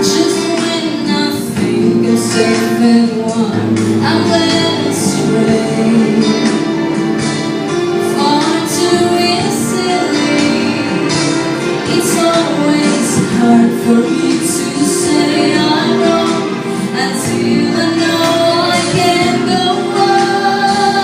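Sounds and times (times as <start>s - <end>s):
woman singing a slow song: 0.0s - 6.8s, 8.0s - 21.0s
instrumental accompaniment: 0.0s - 21.0s.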